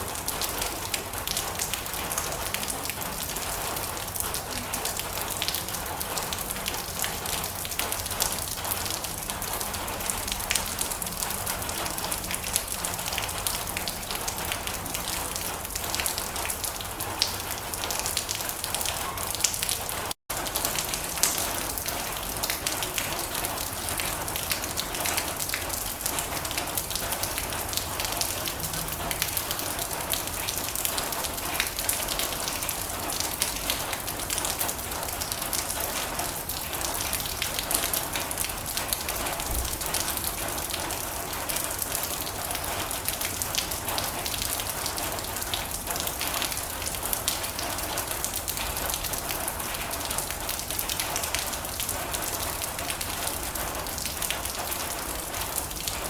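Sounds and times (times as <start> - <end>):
rain drumming on a metal roof: 0.0 - 56.0.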